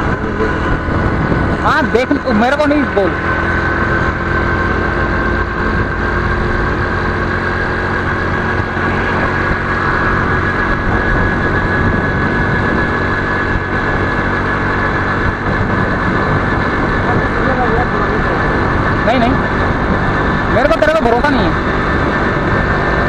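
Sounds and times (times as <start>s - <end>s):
motorcycle engine running: 0.0s - 23.0s
road and wind rumble: 0.0s - 23.0s.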